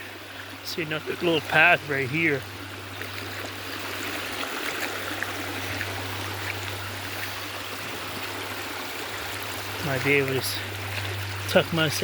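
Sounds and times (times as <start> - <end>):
stream water running over rocks: 0.0 - 12.0.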